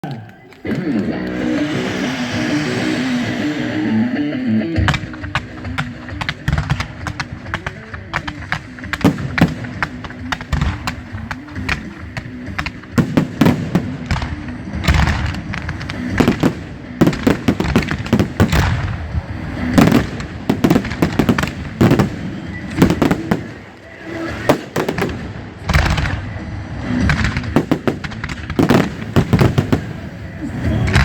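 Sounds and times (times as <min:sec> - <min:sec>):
music: 0:00.0 - 0:31.0
fireworks bangs and crackles: 0:00.2 - 0:31.0.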